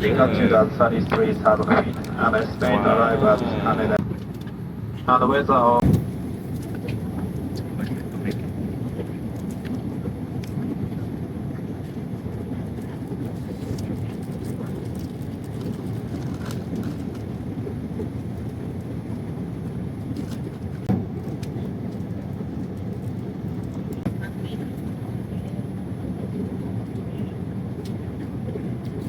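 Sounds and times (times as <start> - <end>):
airliner cabin rumble: 0.0 - 29.0.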